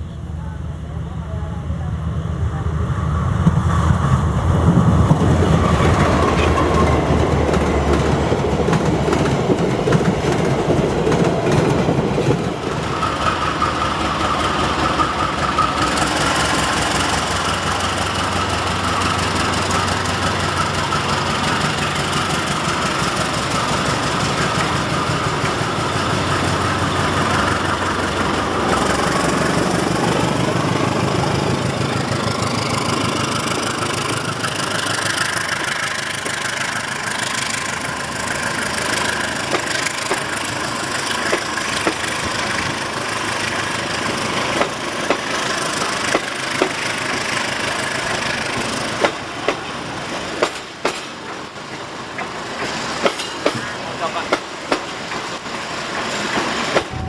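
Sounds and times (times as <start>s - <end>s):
passing train rumble: 0.0s - 57.0s.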